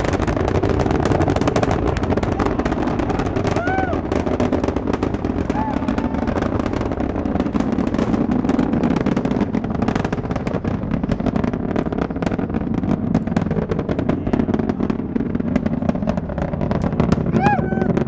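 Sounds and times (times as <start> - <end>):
rocket exhaust rumbling and crackling: 0.0 - 18.0.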